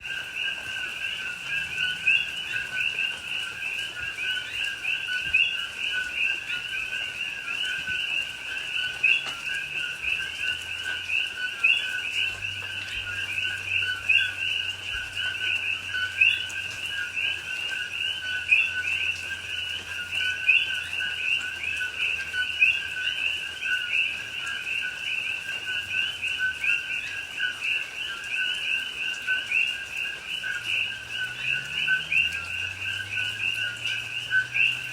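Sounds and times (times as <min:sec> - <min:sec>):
chorus of frogs calling: 0:00.0 - 0:34.9.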